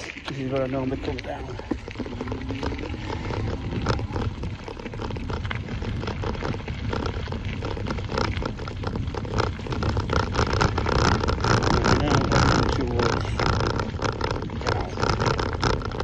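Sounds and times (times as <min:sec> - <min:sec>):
bike tyres rattling on rough path: 0:00.0 - 0:16.0
low rumble: 0:00.0 - 0:16.0.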